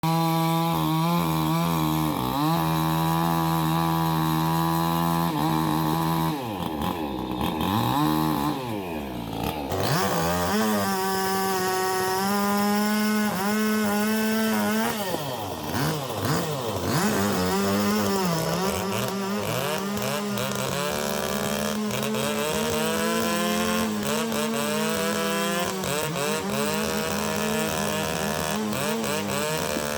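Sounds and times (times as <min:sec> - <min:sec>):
chainsaw cutting into tree: 0:00.0 - 0:29.9.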